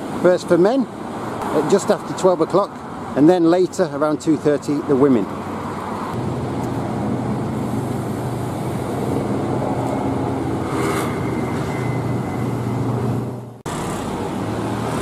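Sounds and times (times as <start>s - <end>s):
car engines humming: 0.0s - 15.0s
tyre and road noise: 0.0s - 15.0s.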